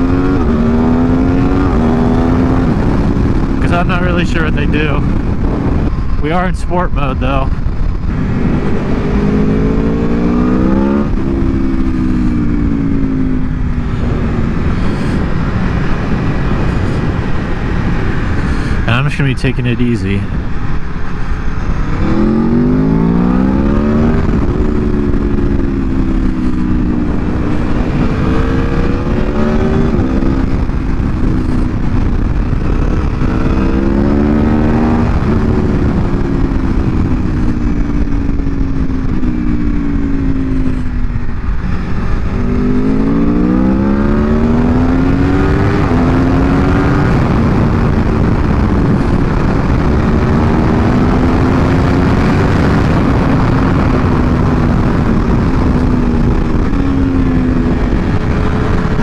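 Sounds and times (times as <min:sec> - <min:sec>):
motorcycle engine revving: 0:00.0 - 0:19.5, 0:20.4 - 0:59.0.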